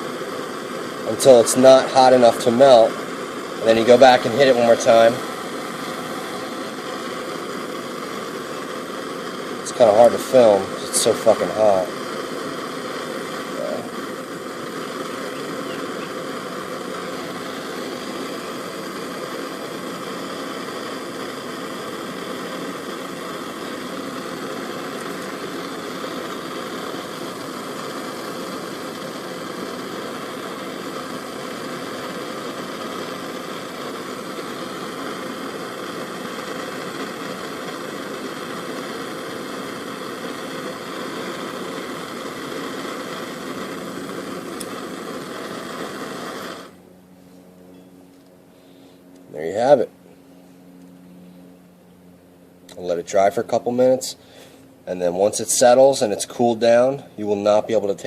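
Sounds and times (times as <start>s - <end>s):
gas torch flame hissing: 0.0s - 46.8s, 52.7s - 58.0s.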